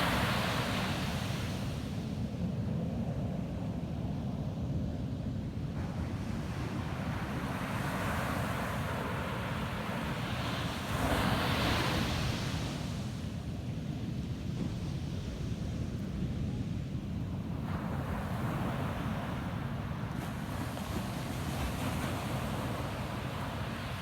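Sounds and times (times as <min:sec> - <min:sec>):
ocean surf on a beach: 0:00.0 - 0:02.2, 0:05.8 - 0:24.0.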